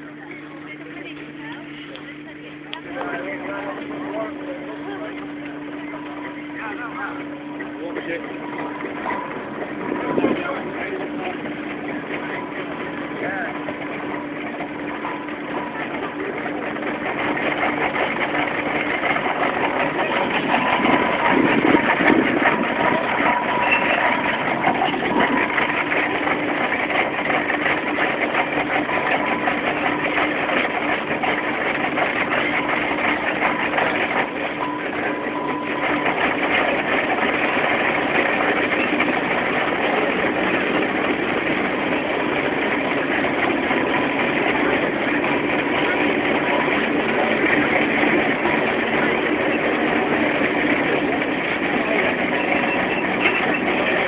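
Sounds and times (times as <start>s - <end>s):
steam engine running with hum: 0.0s - 54.0s.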